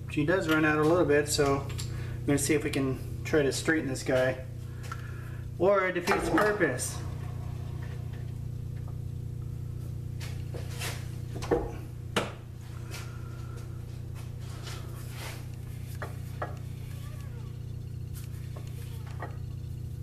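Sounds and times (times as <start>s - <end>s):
steady electric hum: 0.0s - 20.0s.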